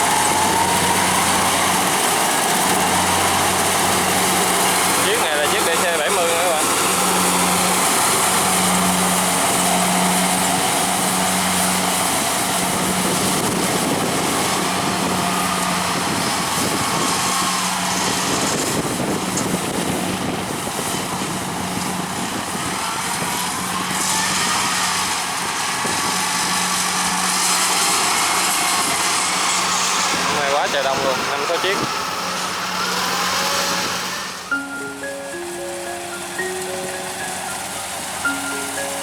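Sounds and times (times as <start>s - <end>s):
combine harvester droning: 0.0s - 39.0s.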